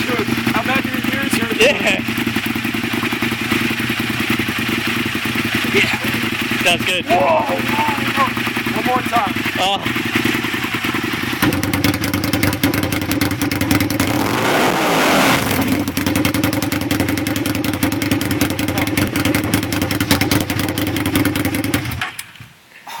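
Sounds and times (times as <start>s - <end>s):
loud motorcycle engine: 0.0s - 22.2s.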